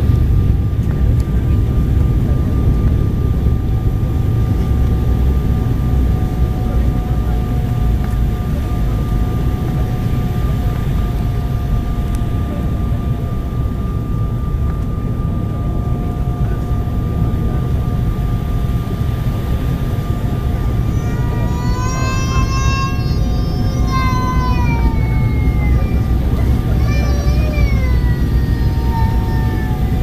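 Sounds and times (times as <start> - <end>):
jet engine and airflow rumble: 0.0 - 30.0
steady whining tones: 0.0 - 30.0.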